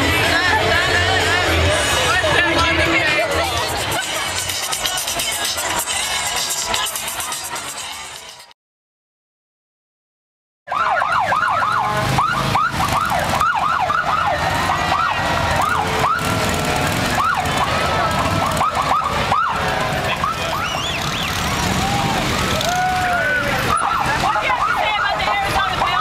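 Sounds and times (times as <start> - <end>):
police sirens yelping: 0.0 - 7.7, 10.7 - 26.0
crowd noise: 0.0 - 8.5, 10.7 - 26.0.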